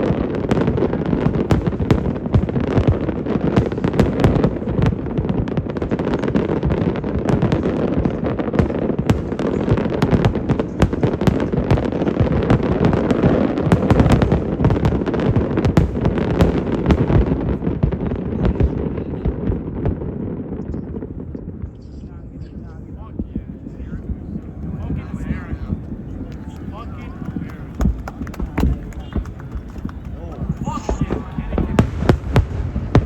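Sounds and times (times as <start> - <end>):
fireworks booming and cracking: 0.0 - 33.0.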